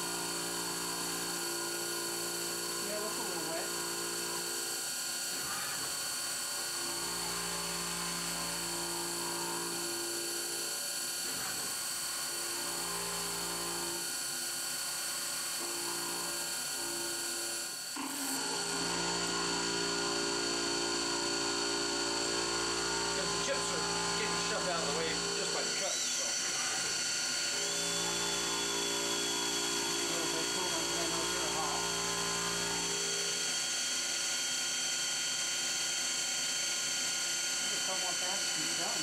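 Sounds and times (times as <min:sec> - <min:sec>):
milling machine whining: 0:00.0 - 0:39.0.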